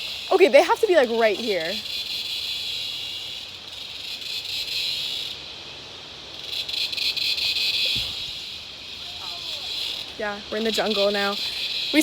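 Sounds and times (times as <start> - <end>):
cicadas buzzing: 0.0 - 12.0.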